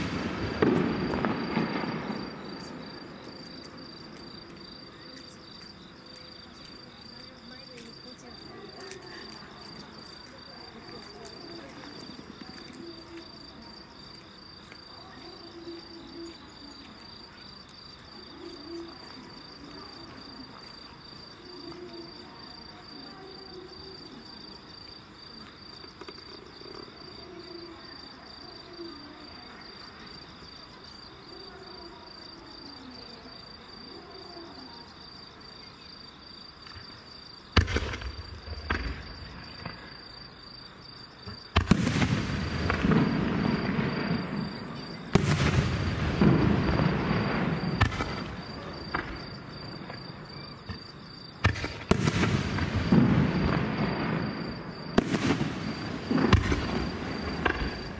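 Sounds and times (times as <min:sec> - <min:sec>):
insects trilling: 0:00.0 - 0:57.9
murmur of people talking: 0:00.0 - 0:57.9.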